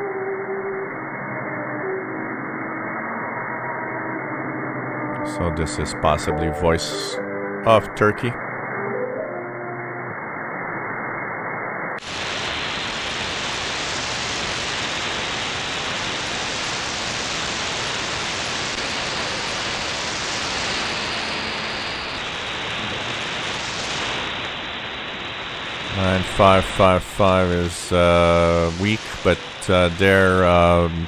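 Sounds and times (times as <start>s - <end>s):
radio static hiss: 0.8s - 31.0s.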